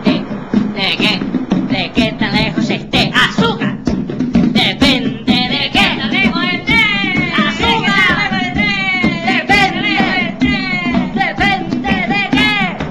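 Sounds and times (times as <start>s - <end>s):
comic song with singing voices: 0.0s - 12.9s.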